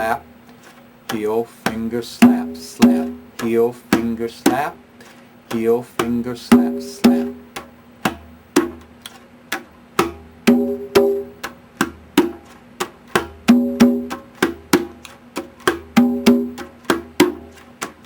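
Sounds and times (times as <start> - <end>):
congas heel and finger strokes: 0.0 - 18.0
ringing conga slaps: 1.1 - 4.6, 5.5 - 18.0.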